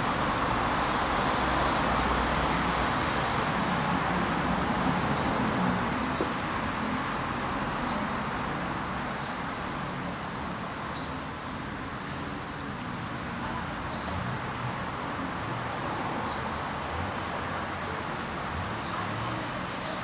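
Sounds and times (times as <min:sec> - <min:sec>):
city traffic hum: 0:00.0 - 0:20.0.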